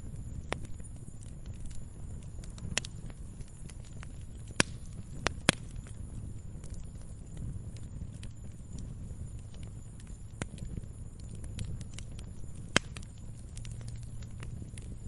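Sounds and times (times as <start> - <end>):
fire crackling pops: 0.0 - 15.0
fire low rumble: 0.0 - 15.0.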